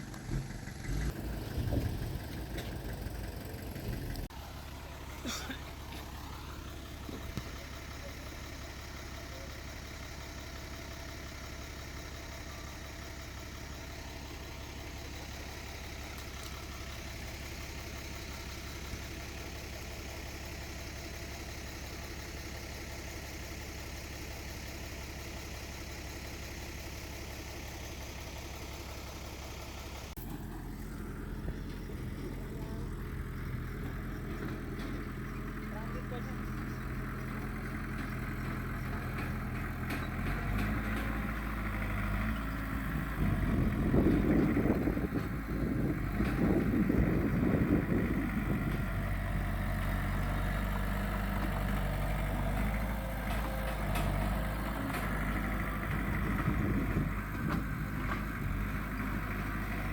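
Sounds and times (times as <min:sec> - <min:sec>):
diesel engine running: 0:00.0 - 0:59.9
engine hum with low drone: 0:00.0 - 0:59.9.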